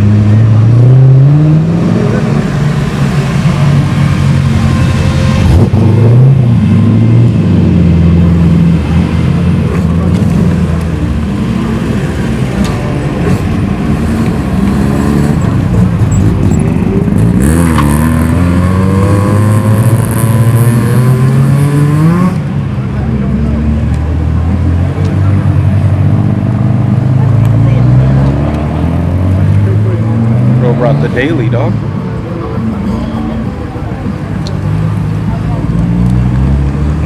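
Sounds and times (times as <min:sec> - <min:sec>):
car engines revving and passing: 0:00.0 - 0:37.0.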